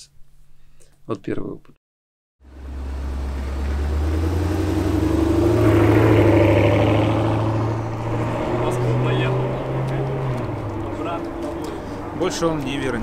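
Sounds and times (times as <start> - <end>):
vehicle engine running: 2.4 - 13.0.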